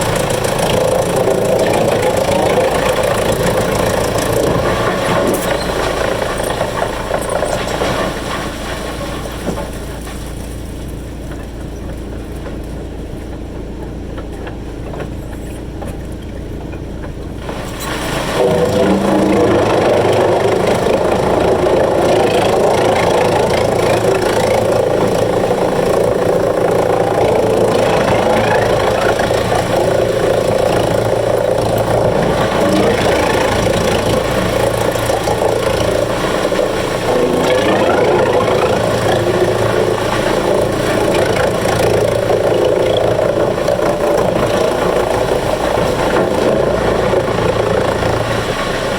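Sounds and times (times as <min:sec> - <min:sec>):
wood chipper engine running: 0:00.0 - 0:48.9.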